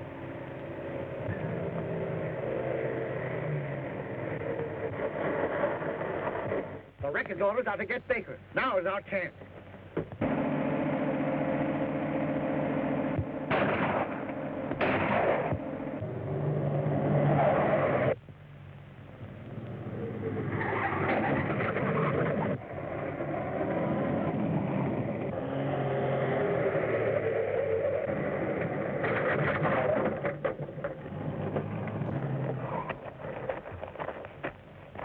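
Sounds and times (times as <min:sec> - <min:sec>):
car engine running: 0:00.0 - 0:35.0.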